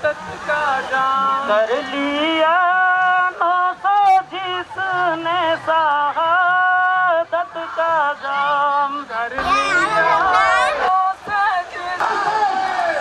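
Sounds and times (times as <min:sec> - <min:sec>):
person singing a slow chant: 0:00.0 - 0:13.0.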